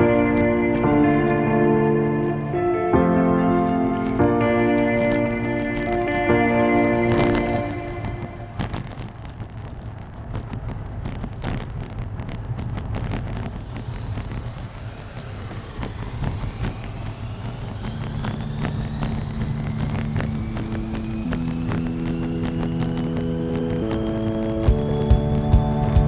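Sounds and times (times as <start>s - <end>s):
bicycle road noise: 0.0s - 26.0s
faint rising whine: 0.0s - 26.0s
steady low hum: 0.0s - 26.0s
wind noise: 0.0s - 26.0s
clicks and ticks: 3.6s - 26.0s.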